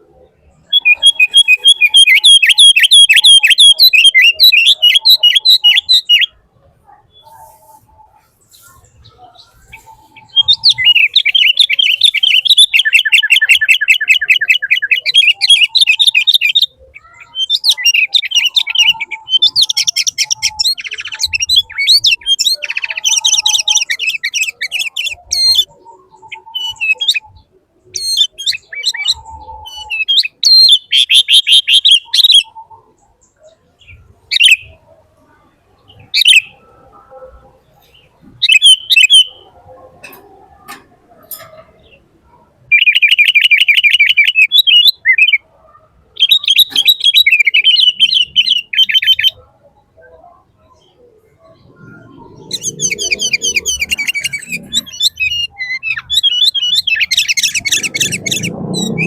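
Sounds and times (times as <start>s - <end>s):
bird trilling and chirping: 0.0s - 34.9s, 35.8s - 59.0s.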